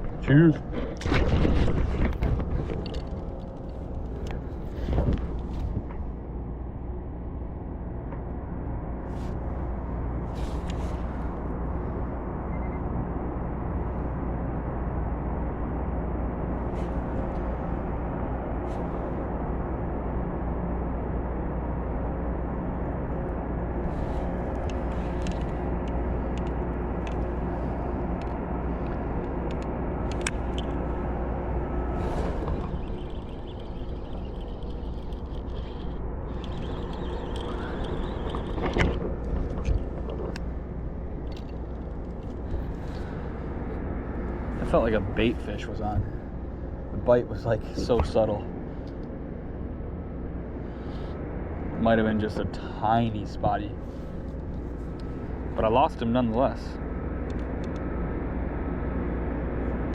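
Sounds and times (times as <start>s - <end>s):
low engine drone: 0.0s - 59.9s
faint steady tones: 2.2s - 59.9s.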